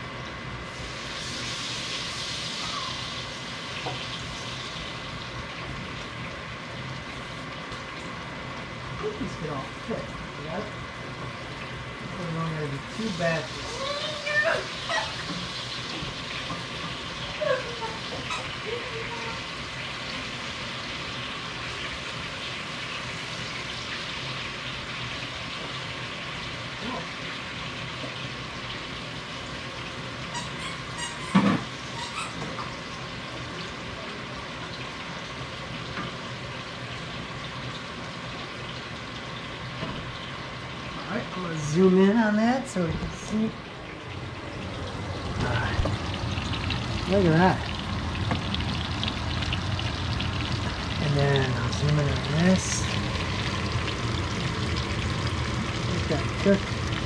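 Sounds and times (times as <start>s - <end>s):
potatoes sizzling in a skillet: 0.6s - 57.0s.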